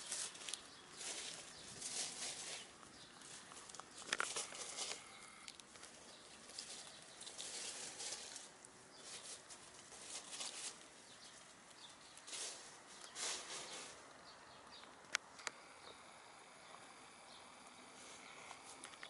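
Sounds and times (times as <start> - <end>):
hens rustling through leaves: 0.0 - 14.5, 17.8 - 18.9.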